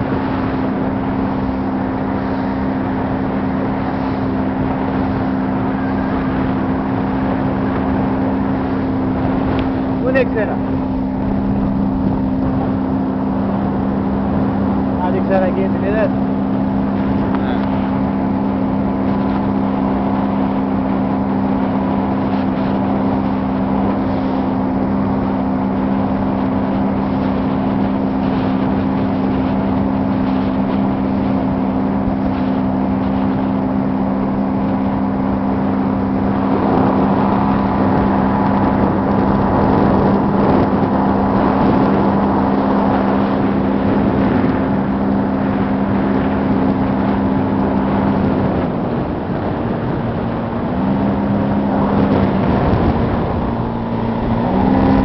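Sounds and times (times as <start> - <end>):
motorboat engine drone: 0.0 - 55.0
water rushing: 0.0 - 55.0
wind: 0.0 - 55.0.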